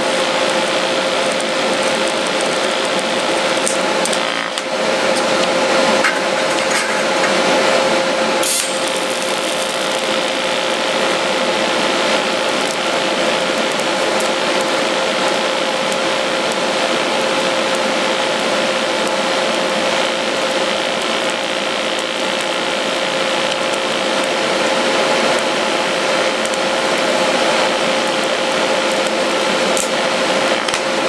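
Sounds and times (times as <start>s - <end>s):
steady hum: 0.0s - 31.0s
welding arc hissing: 0.0s - 31.0s.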